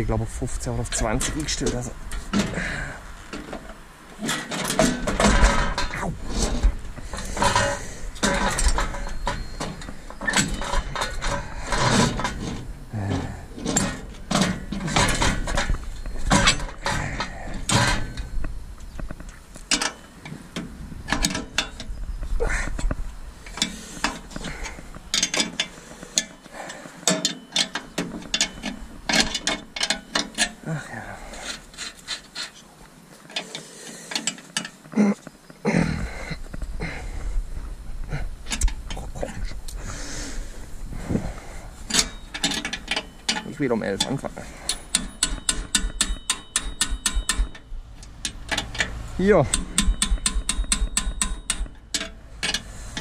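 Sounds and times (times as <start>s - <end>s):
hand tools clanking on metal: 0.7s - 37.1s, 38.1s - 53.0s.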